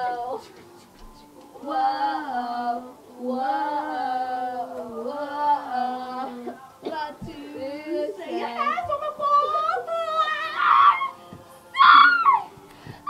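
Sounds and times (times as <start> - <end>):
girl singing held notes: 1.5 - 13.0.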